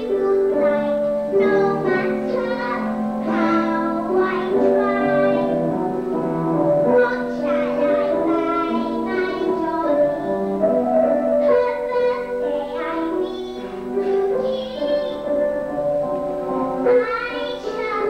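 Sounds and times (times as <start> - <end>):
girl singing: 0.0 - 18.0
instrumental accompaniment: 0.0 - 18.0.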